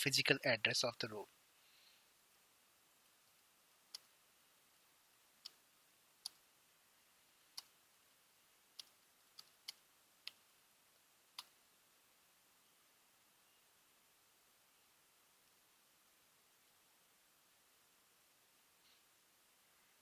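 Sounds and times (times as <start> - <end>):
low background hiss: 0.0 - 20.0.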